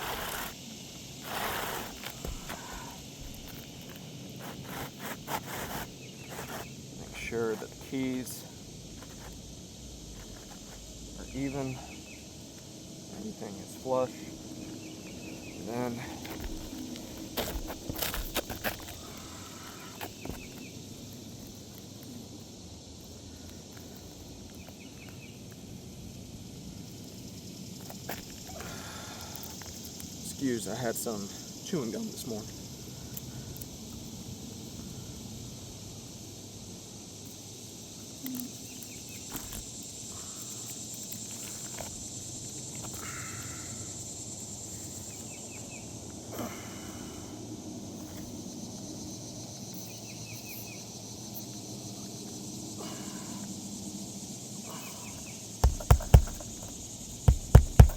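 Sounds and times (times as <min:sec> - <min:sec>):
high-pitched insect drone: 0:00.0 - 0:57.9.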